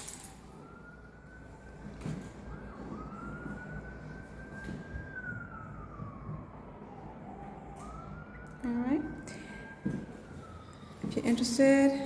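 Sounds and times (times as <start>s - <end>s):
distant siren wailing: 0.0s - 12.0s.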